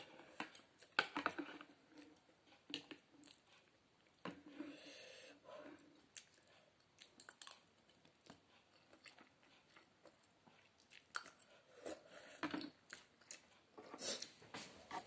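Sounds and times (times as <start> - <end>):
person chewing: 0.0 - 4.8, 5.6 - 15.0.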